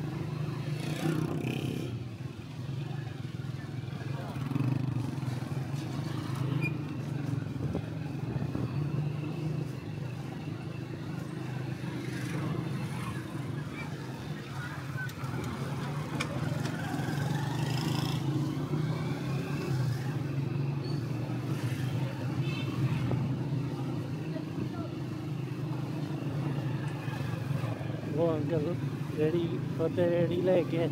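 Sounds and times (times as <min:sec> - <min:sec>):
motorbikes passing by: 0:00.0 - 0:30.9.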